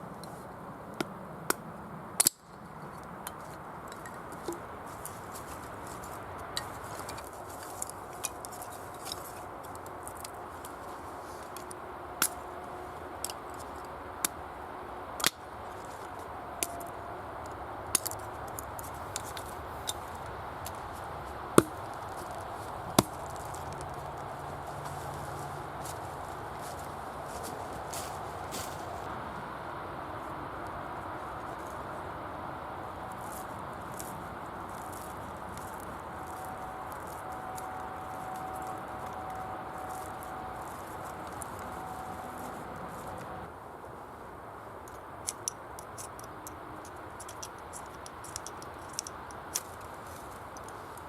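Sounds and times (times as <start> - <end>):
background hiss: 3.6 - 51.0.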